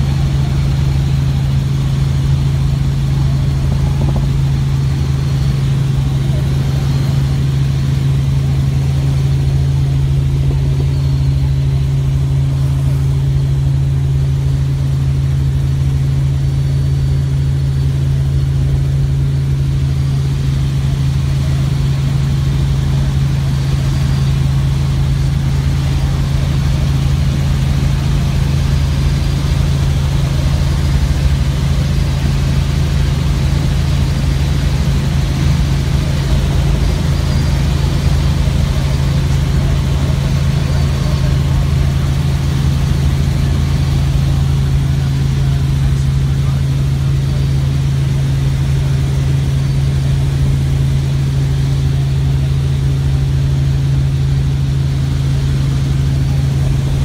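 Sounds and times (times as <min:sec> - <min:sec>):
helicopter engine and rotors drone: 0:00.0 - 0:57.0.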